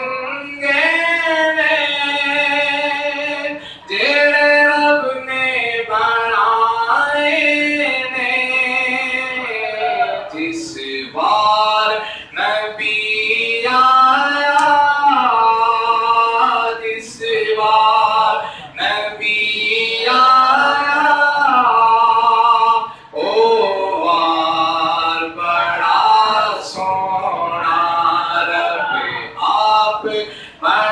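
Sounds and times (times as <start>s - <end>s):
man singing unaccompanied: 0.0s - 30.9s.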